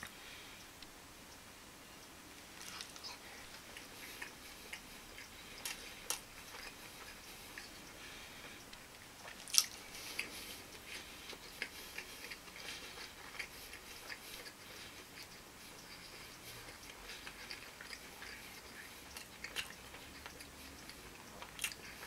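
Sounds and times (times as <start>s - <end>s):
person chewing: 2.5s - 22.0s.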